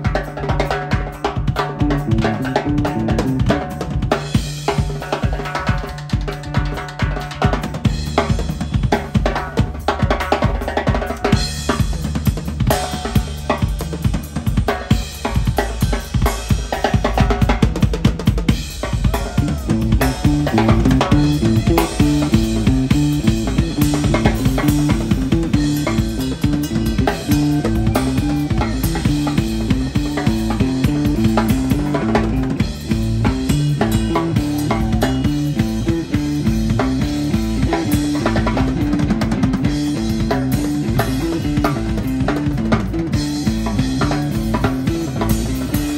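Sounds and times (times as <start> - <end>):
electric bass guitar: 0.0 - 10.2, 11.0 - 45.9
rock drum kit playing: 0.0 - 45.9.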